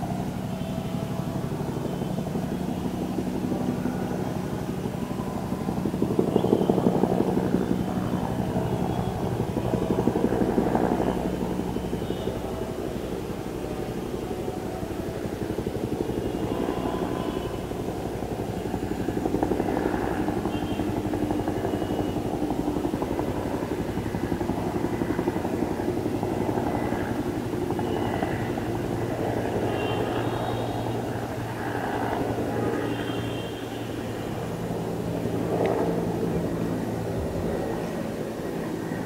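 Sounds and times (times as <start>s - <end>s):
helicopter engine drone: 0.0s - 39.0s
helicopter rotor beating: 0.0s - 39.0s.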